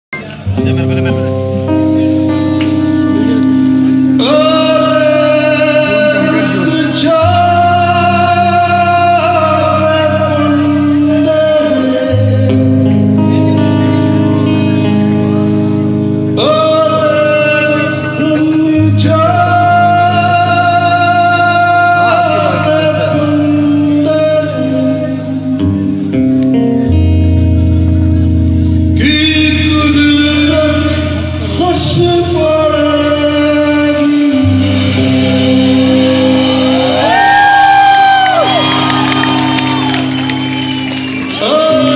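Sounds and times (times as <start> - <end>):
guitar: 0.0 - 41.9
steady bass line: 0.1 - 41.9
person singing: 0.2 - 27.1, 28.6 - 40.2, 41.2 - 41.9.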